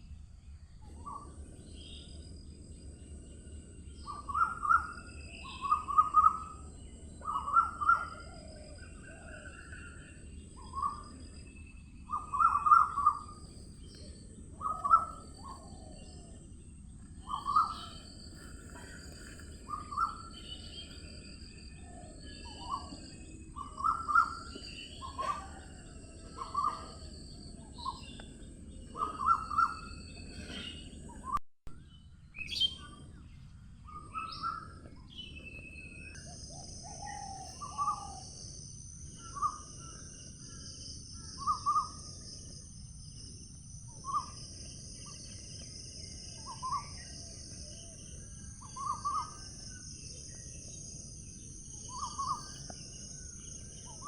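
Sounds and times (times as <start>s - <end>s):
low background hum: 0.0s - 54.0s
birds calling and chirping: 0.8s - 54.0s.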